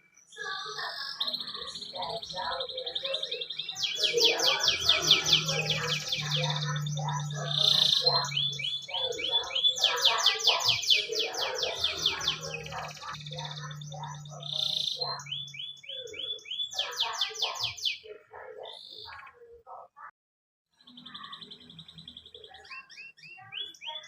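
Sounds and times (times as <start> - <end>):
canary singing trills: 0.0 - 20.1, 20.8 - 24.0.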